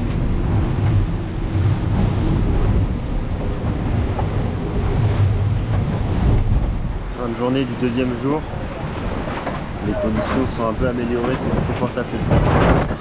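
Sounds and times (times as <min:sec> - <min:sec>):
sea water rushing along hulls: 0:00.0 - 0:13.0
wind on microphone: 0:00.0 - 0:13.0.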